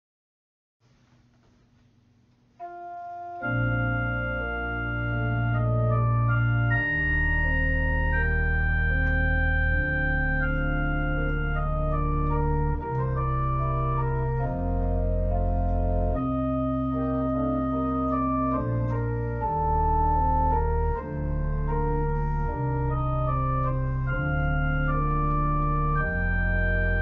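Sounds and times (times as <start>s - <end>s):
organ playing sustained chords: 2.6s - 27.0s.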